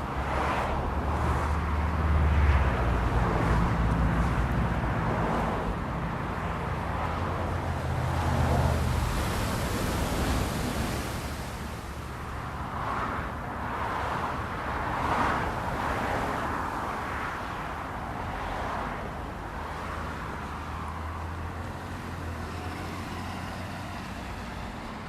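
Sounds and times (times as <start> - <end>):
ocean surf: 0.0 - 24.9
cars passing: 0.0 - 25.0.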